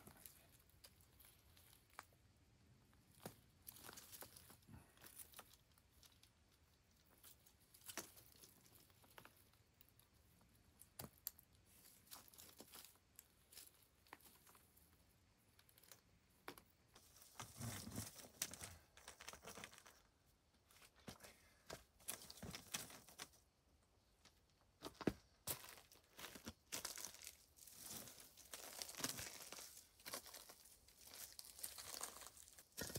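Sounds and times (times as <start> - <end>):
rustling and crinkling: 0.0 - 32.9
cable handling clicks and rustles: 2.9 - 32.9.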